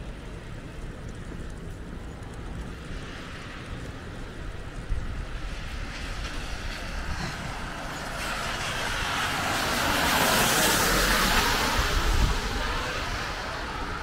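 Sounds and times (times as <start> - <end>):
tyres hissing on wet street: 0.0 - 14.0
wind rumble on microphone: 0.0 - 14.0.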